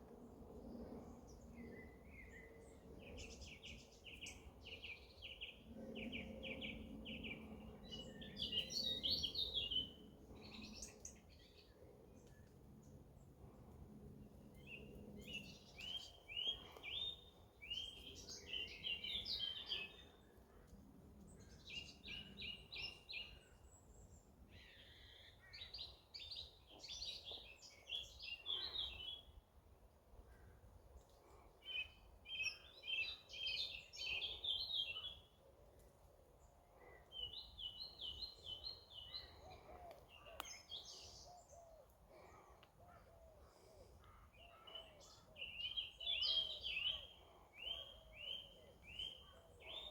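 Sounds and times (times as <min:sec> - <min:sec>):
faint outdoor background: 0:00.0 - 0:49.9
songbird singing: 0:00.1 - 0:13.4, 0:14.2 - 0:20.5, 0:21.1 - 0:29.4, 0:30.3 - 0:49.9.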